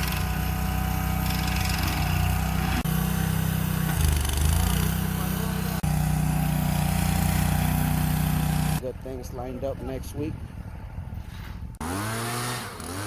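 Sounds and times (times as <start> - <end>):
stump grinder engine running: 0.0 - 9.3, 11.8 - 13.0.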